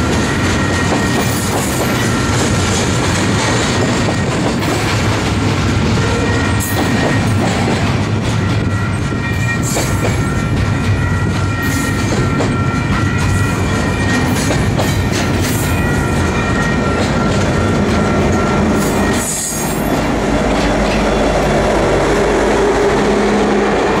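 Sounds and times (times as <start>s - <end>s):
diesel locomotive running: 0.0s - 24.0s
freight train wheel clatter: 0.0s - 24.0s.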